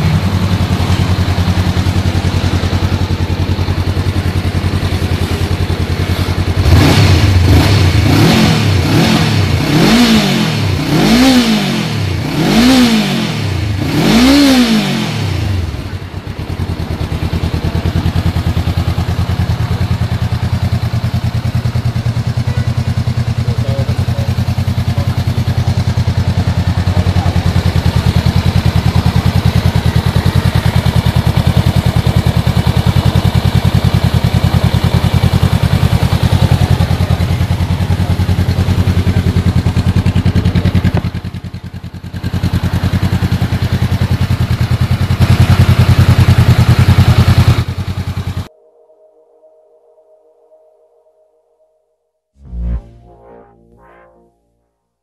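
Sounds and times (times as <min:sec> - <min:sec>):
motorcycle engine revving and idling: 0:00.0 - 0:48.5.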